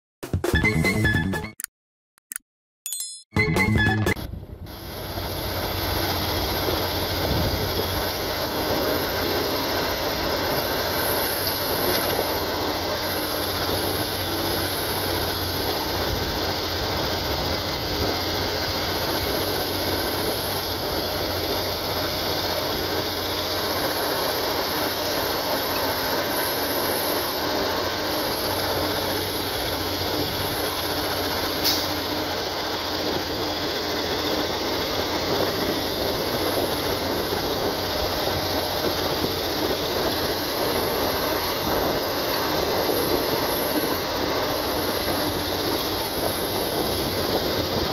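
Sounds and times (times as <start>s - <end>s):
excavator diesel engine running: 3.4s - 47.9s.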